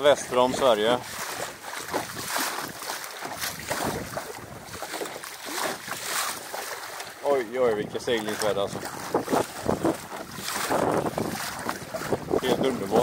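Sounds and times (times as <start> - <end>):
water splashing against hull: 0.0 - 13.0
wind on microphone: 0.3 - 6.2, 7.6 - 13.0.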